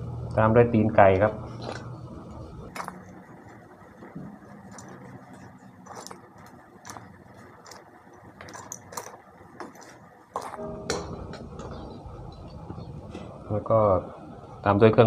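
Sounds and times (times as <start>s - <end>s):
water boiling in a pot: 1.8s - 15.0s.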